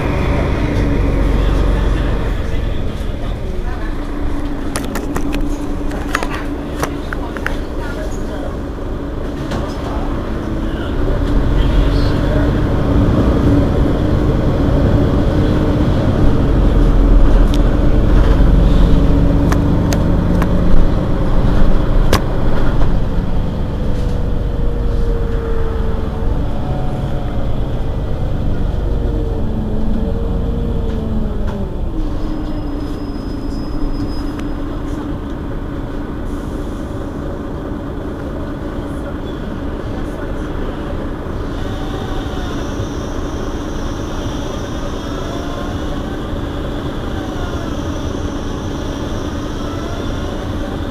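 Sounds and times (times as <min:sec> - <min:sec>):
bus engine rumbling: 0:00.0 - 0:50.9.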